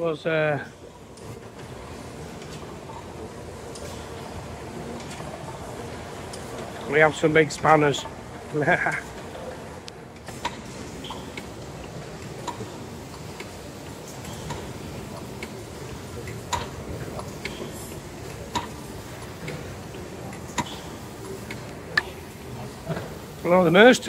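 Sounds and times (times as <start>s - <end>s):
steam engine clicking: 1.0s - 24.0s.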